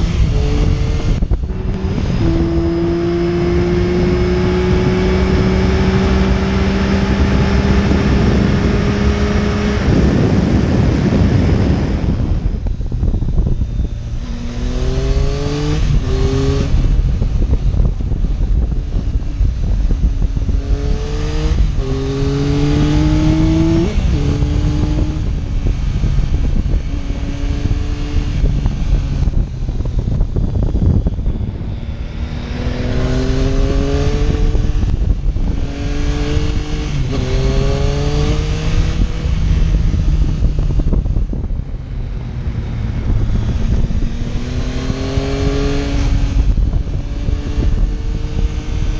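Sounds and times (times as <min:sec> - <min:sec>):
motorcycle engine accelerating: 0:00.0 - 0:48.9
wind rush: 0:00.0 - 0:48.9.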